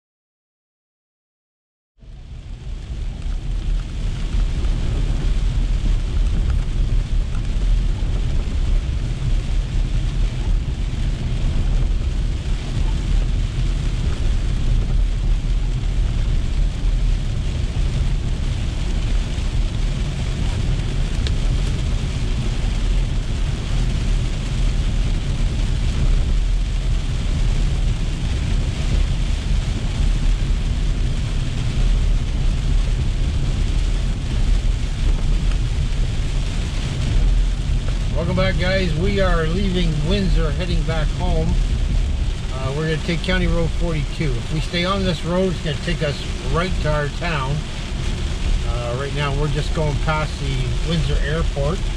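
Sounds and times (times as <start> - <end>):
car road and engine rumble: 2.0 - 51.9
rain hitting windshield: 2.0 - 51.9.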